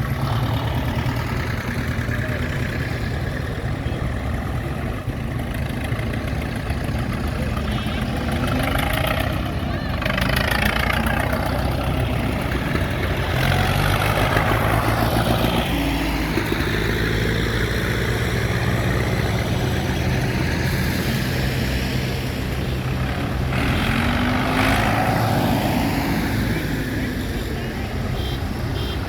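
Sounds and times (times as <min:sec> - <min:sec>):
tractor engines humming: 0:00.0 - 0:29.0
tractor engines passing by: 0:00.0 - 0:29.0.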